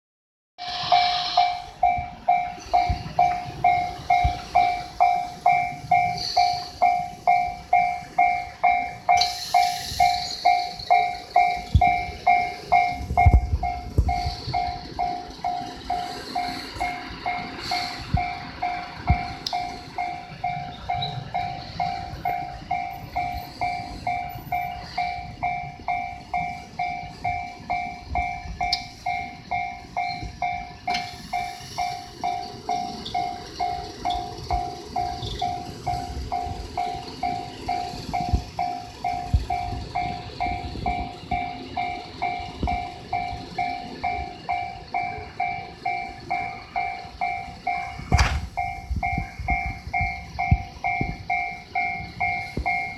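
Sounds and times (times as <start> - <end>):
freight train rumbling: 0.6 - 52.9
level-crossing warning bell: 0.6 - 52.9
train wheel clicks on rail joints: 0.6 - 52.9.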